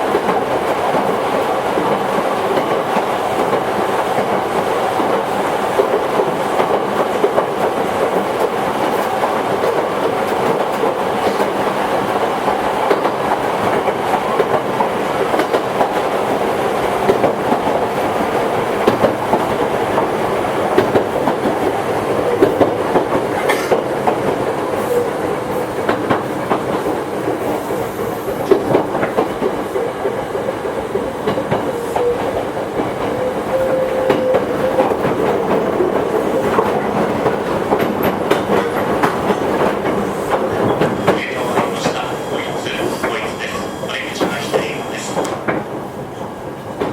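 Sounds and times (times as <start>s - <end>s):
electric train rolling: 0.0s - 46.9s
wheels clacking over rail joints: 0.0s - 46.9s.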